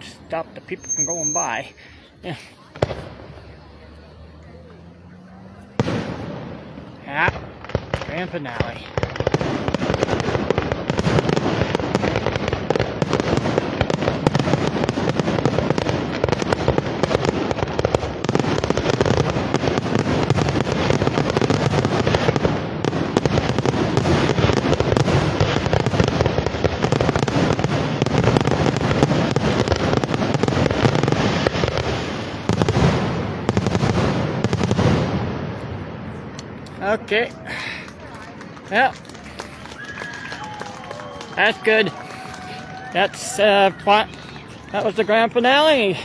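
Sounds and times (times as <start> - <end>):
fireworks bursts and crackling: 0.0 - 46.0.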